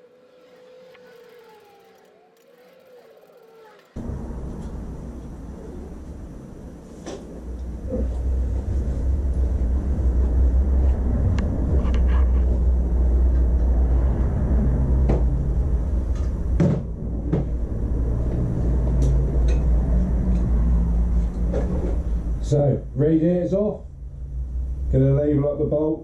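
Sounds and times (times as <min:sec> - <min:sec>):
steady low rumble: 0:04.0 - 0:26.0.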